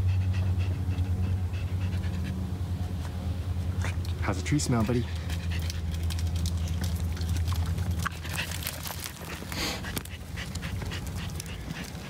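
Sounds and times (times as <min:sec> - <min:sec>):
dog sniffing: 0:00.0 - 0:07.0, 0:08.0 - 0:12.0
low steady rumble: 0:00.0 - 0:12.0.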